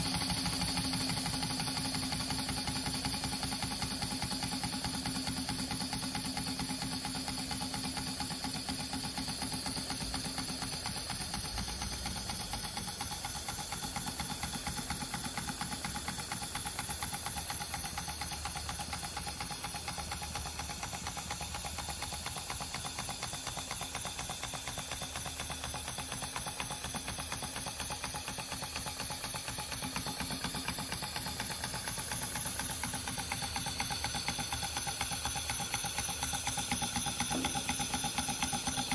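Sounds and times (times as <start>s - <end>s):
model steam engine running: 0.0s - 38.9s.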